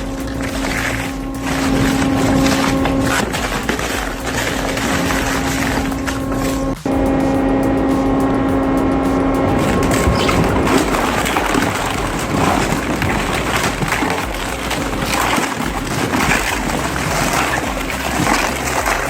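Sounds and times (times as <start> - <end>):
industrial shredder grinding: 0.0 - 19.0.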